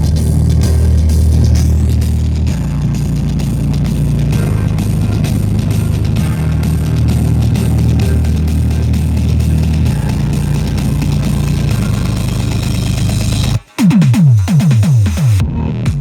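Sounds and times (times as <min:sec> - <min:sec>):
bass-heavy rock music: 0:00.0 - 0:16.0
deep bass notes sliding down: 0:00.0 - 0:16.0.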